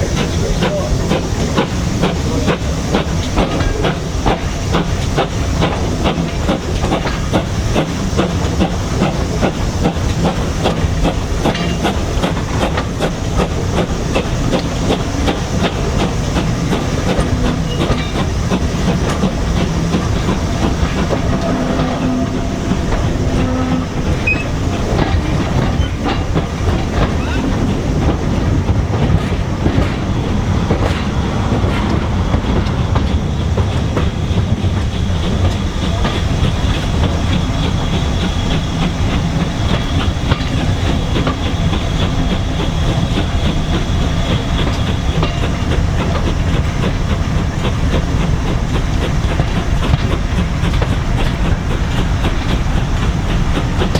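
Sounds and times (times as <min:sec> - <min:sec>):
train wheels clattering over rails: 0:00.0 - 0:53.9.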